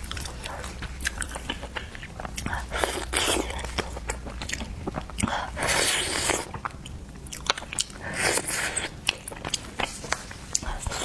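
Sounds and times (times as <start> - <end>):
chewing seafood with crunchy clicks: 0.0 - 11.0.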